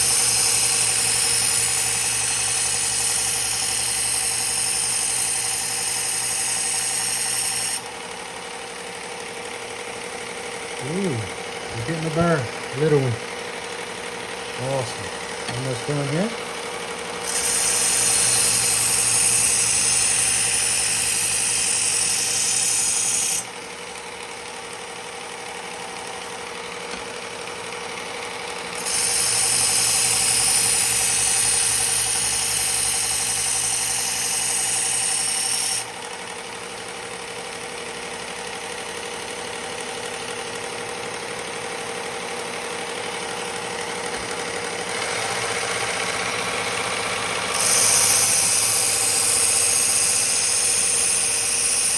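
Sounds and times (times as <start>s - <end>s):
belt grinder motor hum: 0.0s - 23.7s, 26.8s - 35.9s, 42.9s - 51.9s.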